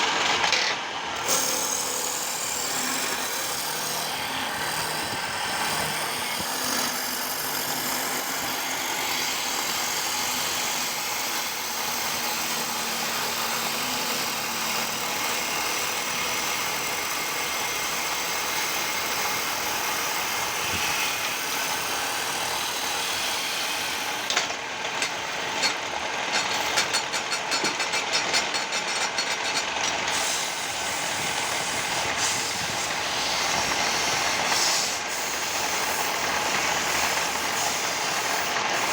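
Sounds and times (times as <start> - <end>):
wood lathe cutting wood: 0.0 - 38.9.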